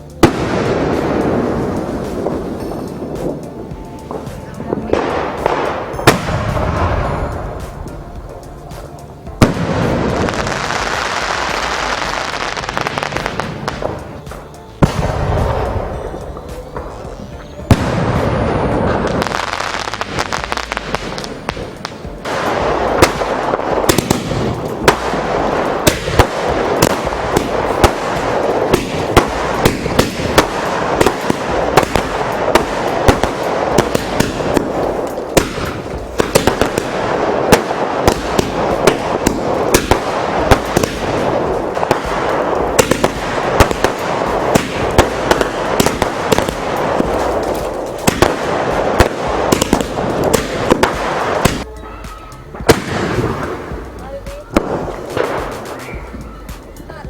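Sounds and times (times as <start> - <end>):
firecrackers banging and crackling: 0.0 - 57.0.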